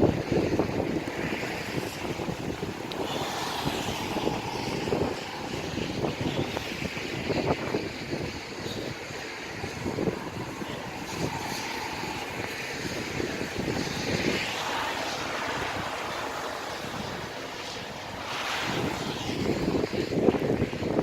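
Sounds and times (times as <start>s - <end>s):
rain: 0.0s - 21.0s
wind gusts buffeting microphone: 0.0s - 21.0s.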